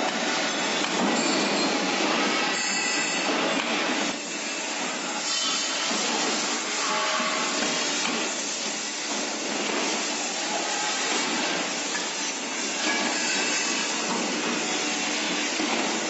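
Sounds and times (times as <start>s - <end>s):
pipe bending machine hissing: 0.0s - 16.0s.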